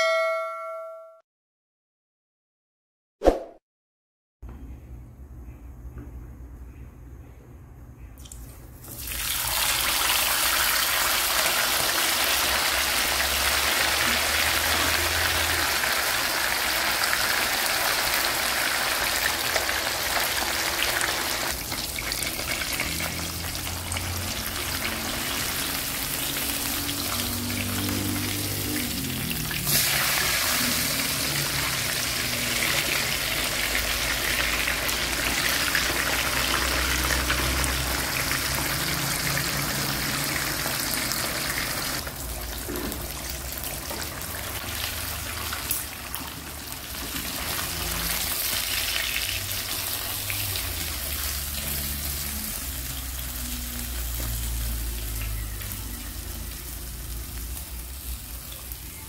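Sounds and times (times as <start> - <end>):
fish sizzling in hot oil: 9.0 - 58.9.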